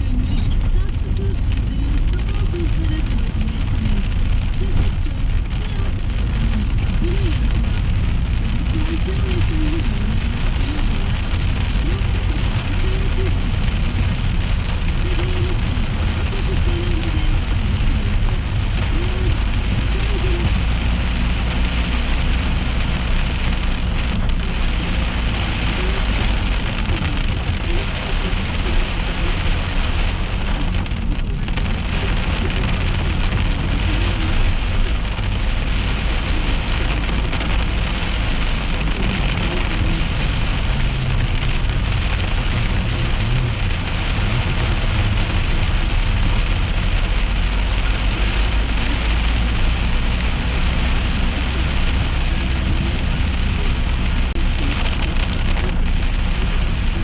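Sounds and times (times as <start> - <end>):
car driving rumble: 0.0 - 57.0
heavy rain on a car: 0.0 - 57.0.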